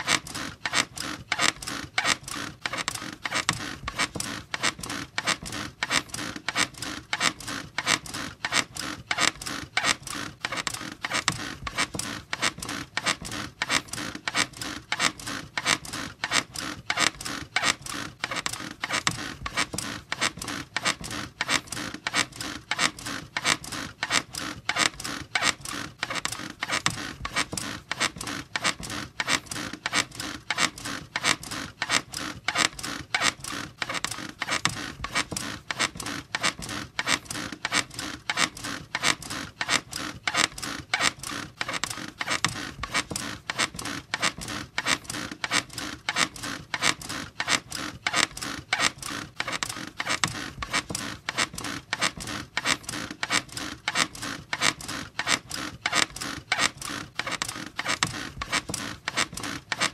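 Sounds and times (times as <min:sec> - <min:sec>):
bed creaking and squeaking: 0:00.0 - 0:59.9.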